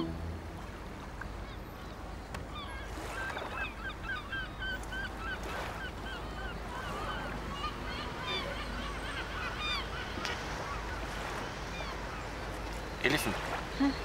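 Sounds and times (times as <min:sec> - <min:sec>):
low waterside rumble: 0:00.0 - 0:14.0.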